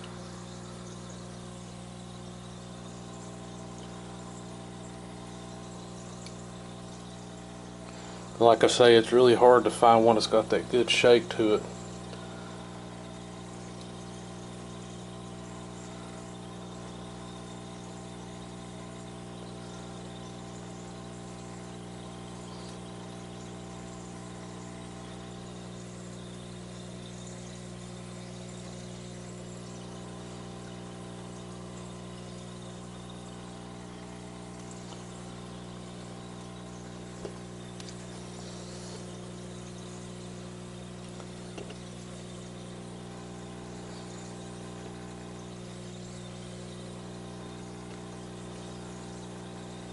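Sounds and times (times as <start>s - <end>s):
low motor hum: 0.0s - 49.9s.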